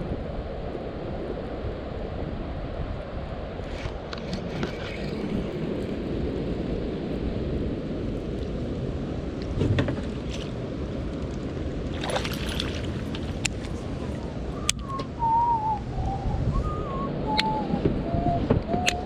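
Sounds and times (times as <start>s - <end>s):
gusty wind on microphone: 0.0s - 19.0s.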